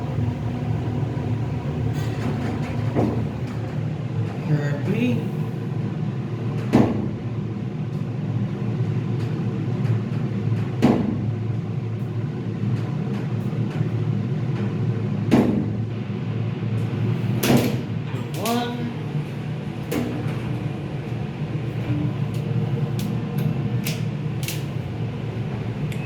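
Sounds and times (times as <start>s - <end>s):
elevator mechanical hum: 0.0s - 26.0s.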